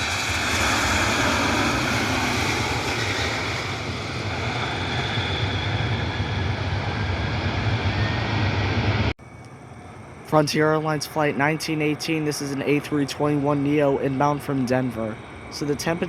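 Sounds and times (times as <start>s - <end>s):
jet airliner engines passing: 0.0s - 16.0s.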